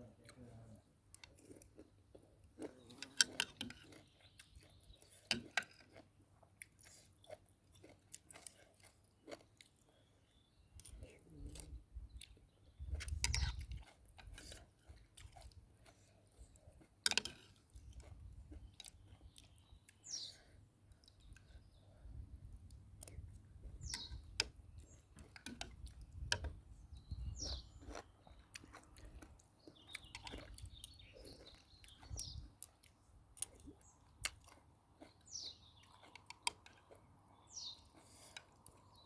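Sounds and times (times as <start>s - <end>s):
person chewing noodles: 1.1s - 39.0s.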